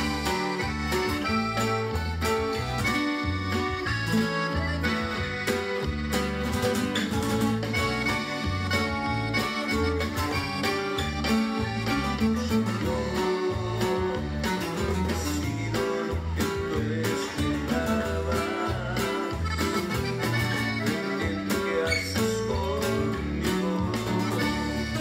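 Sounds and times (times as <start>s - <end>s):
bass guitar picked and strummed: 0.0s - 25.0s.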